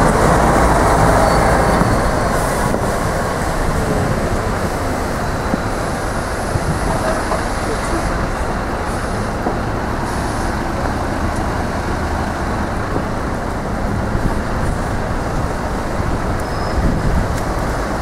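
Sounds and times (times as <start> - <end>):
bus engine running: 0.0 - 18.0
city street traffic: 0.0 - 18.0.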